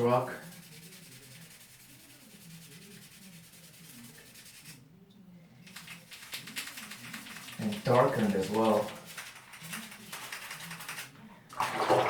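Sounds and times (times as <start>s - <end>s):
toothbrush scrubbing plastic: 0.0s - 4.8s, 5.6s - 11.1s.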